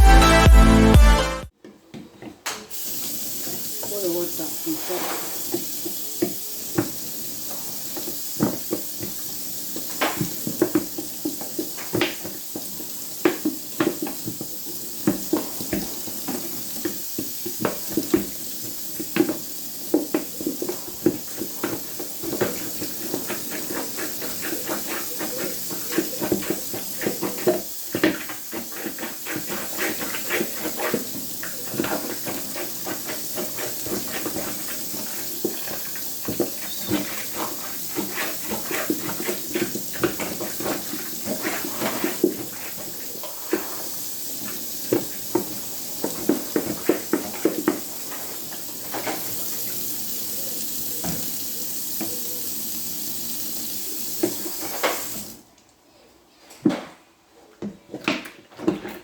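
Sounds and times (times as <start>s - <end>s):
steady hiss: 2.7s - 55.6s
water gurgling in a sink: 2.8s - 55.4s.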